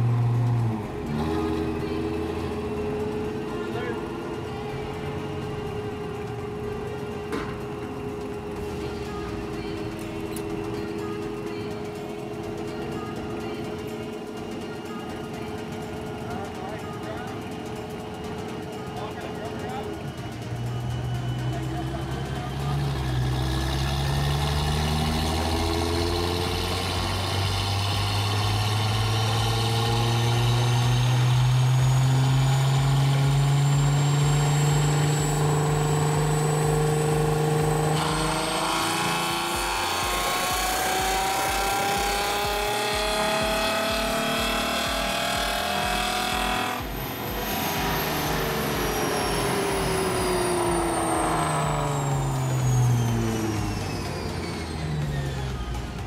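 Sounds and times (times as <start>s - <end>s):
car engine revving on dyno: 0.0s - 56.0s.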